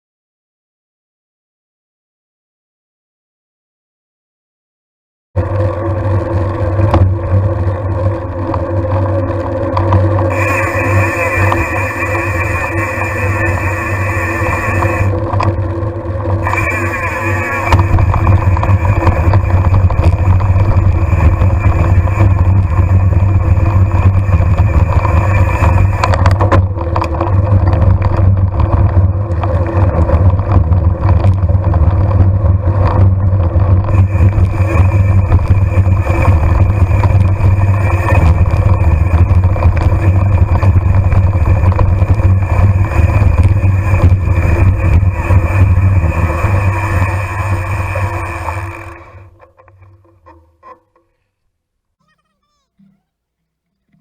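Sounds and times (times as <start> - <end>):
engine running steadily: 5.4 - 49.3.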